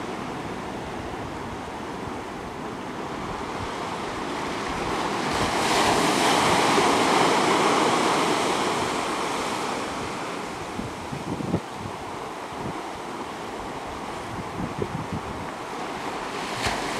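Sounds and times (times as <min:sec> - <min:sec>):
wind on microphone: 0:00.0 - 0:16.9
waves breaking on rocks: 0:02.9 - 0:16.9.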